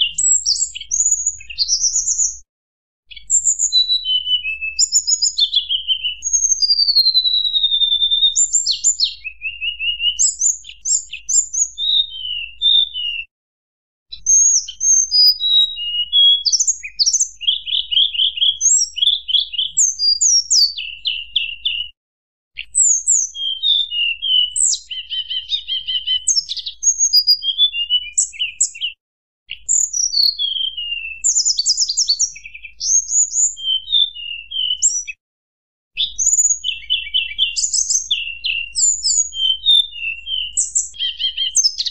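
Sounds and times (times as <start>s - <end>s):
bird singing whistled notes: 0.0s - 2.5s, 3.1s - 13.3s, 14.1s - 22.0s, 22.6s - 35.2s, 36.0s - 41.9s.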